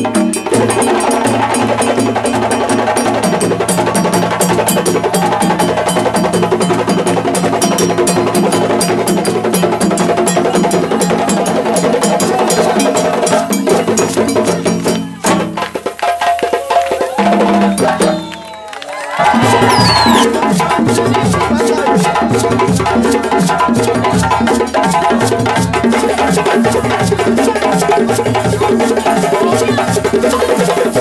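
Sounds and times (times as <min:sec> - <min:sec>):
djembes drumming: 0:00.0 - 0:18.5, 0:19.1 - 0:31.0.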